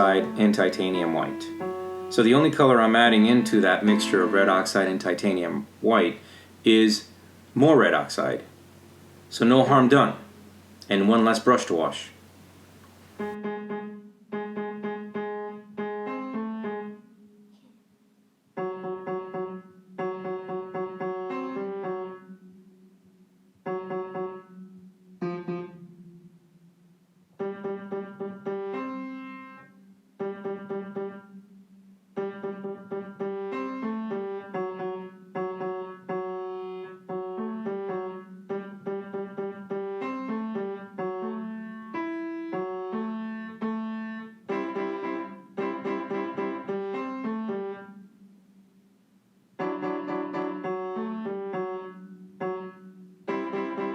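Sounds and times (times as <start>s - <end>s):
piano-like keyboard music: 0.0s - 12.0s, 12.9s - 17.4s, 18.6s - 22.7s, 23.6s - 26.4s, 27.4s - 31.6s, 32.2s - 48.2s, 49.6s - 53.9s.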